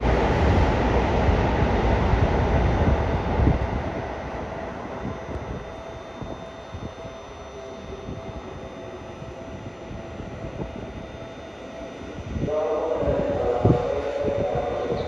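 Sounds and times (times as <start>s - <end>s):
electric train wheels rumbling on rails: 0.0s - 15.0s.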